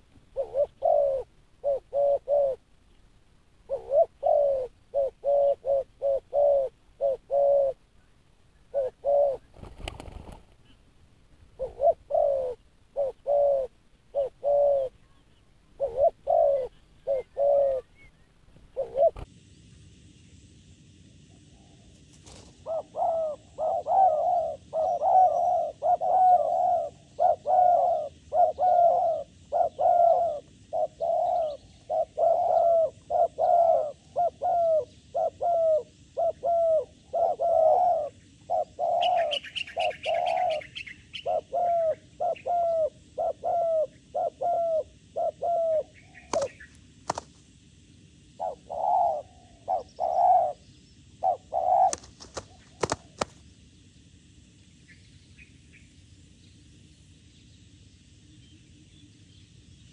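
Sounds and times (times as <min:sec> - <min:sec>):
doves cooing: 0:00.0 - 0:19.3, 0:21.4 - 0:47.4, 0:48.4 - 0:53.5.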